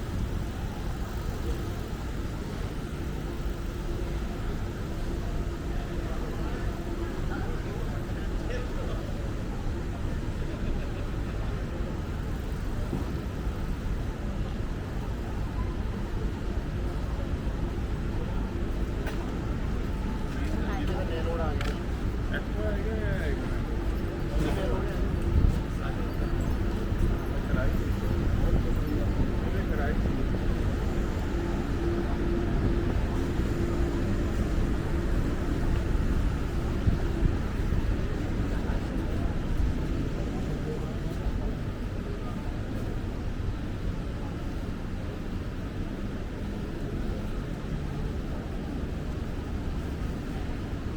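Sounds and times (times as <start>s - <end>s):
traffic rumble: 0.0s - 50.9s.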